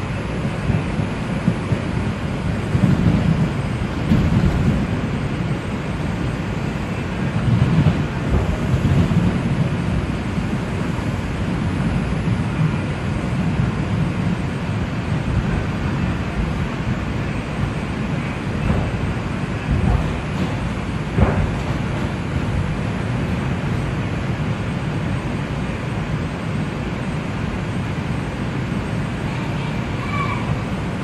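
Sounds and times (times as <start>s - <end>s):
subway car rumbling on track: 0.0s - 31.0s.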